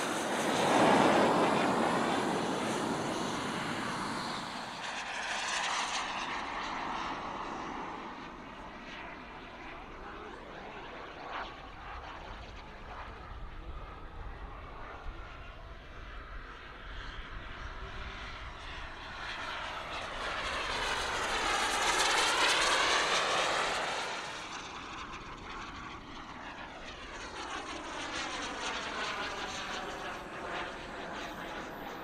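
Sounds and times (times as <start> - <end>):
model jet turbine flying past: 0.0 - 32.0.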